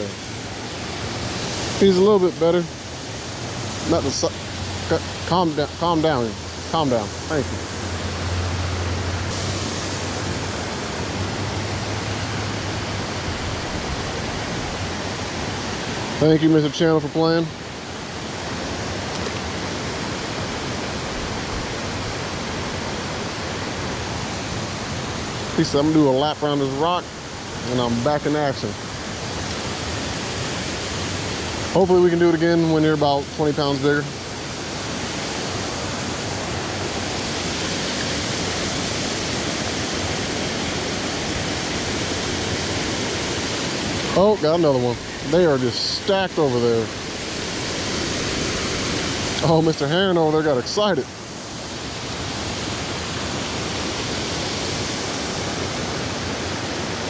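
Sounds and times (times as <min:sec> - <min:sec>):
water flowing over waterfall: 0:00.0 - 0:57.0.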